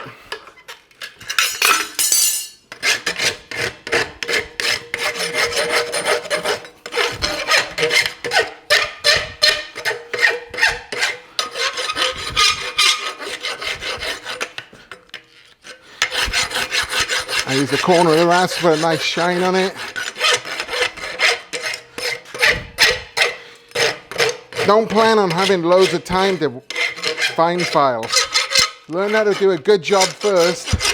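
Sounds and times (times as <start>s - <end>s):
rasp filing metal horseshoe: 0.0s - 30.9s.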